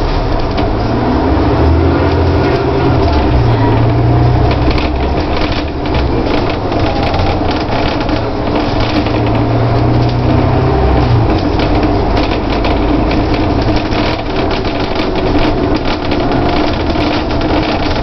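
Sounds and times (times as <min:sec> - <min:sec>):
bus engine running: 0:00.0 - 0:18.0
rattling body panels: 0:01.8 - 0:18.0.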